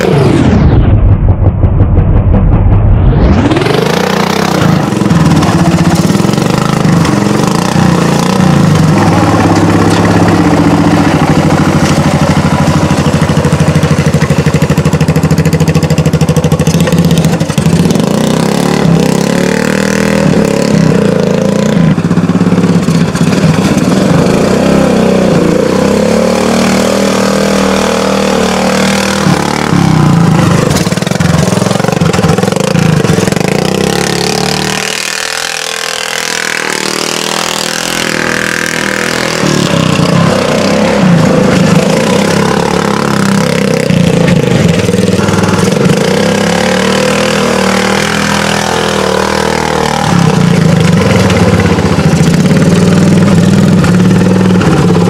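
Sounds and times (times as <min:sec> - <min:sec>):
lawn mower engine running: 0:03.4 - 0:55.0.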